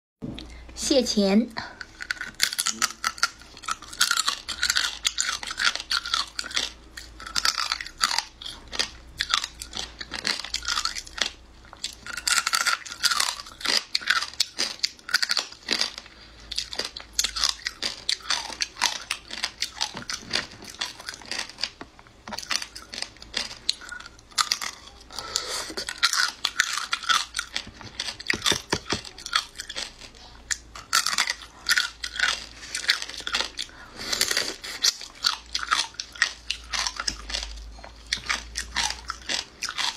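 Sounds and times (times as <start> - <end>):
wet chewing with crisp crunches: 1.8 - 39.9.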